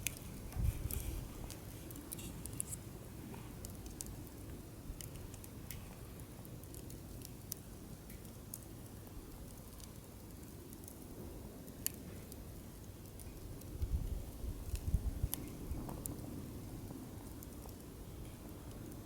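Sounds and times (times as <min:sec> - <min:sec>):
campfire flame rumble: 0:00.0 - 0:19.0
firewood crackles and pops: 0:00.0 - 0:19.0.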